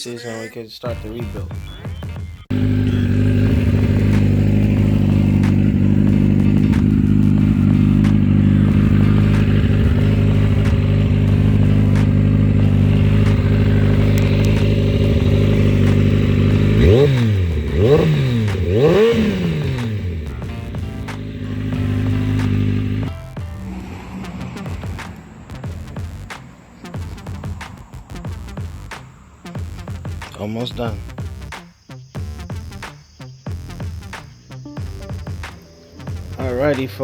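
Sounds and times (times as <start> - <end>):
motorcycle engine idling: 1.4 - 31.5, 32.1 - 37.0
motorcycle engine revving: 1.4 - 37.0.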